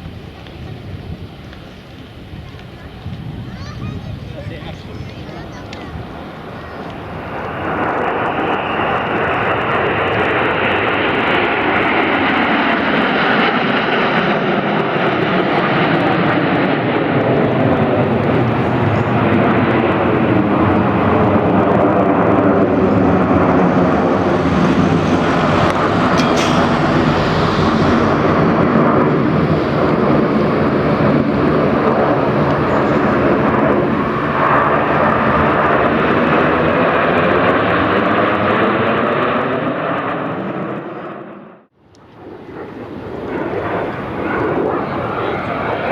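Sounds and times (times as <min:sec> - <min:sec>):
jets flying past: 0:04.2 - 0:41.3.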